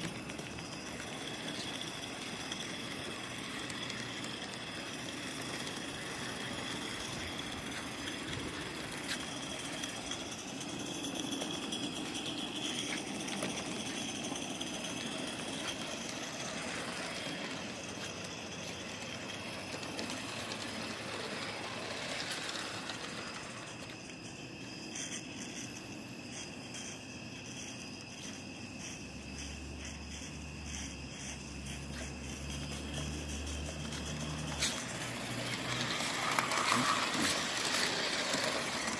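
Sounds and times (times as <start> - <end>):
light mechanical rattling: 0.0 - 38.9
steam hissing: 0.0 - 38.9.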